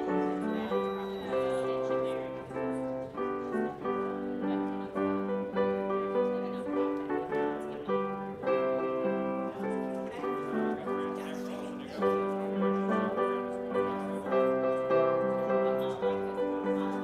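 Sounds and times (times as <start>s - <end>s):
keyboard playing slow chords: 0.0s - 17.0s.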